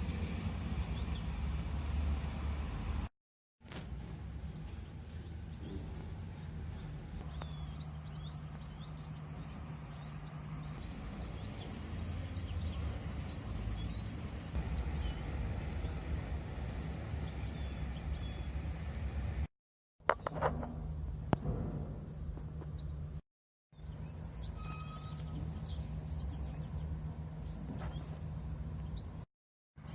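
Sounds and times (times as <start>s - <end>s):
small birds chirping: 0.2s - 2.9s, 4.1s - 19.1s, 22.5s - 29.9s.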